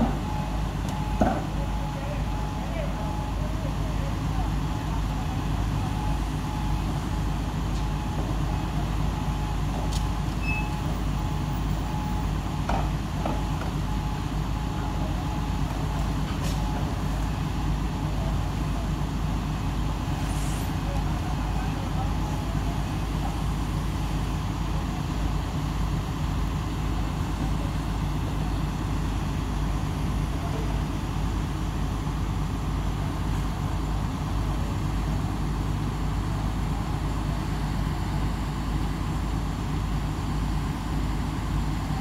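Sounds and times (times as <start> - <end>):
heavy machinery engine idling: 0.0 - 42.0.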